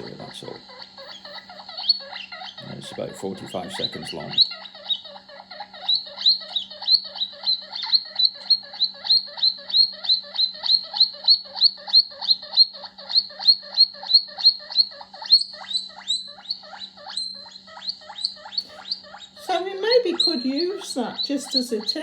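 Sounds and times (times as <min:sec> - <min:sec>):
guinea pig wheeking squeaks: 0:00.0 - 0:22.0.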